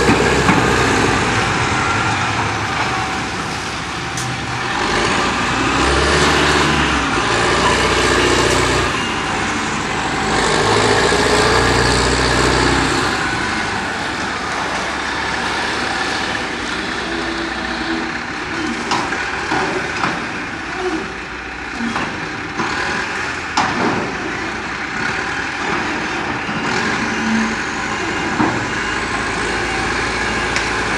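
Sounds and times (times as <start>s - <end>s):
heavy vehicle engine running: 0.0s - 30.9s.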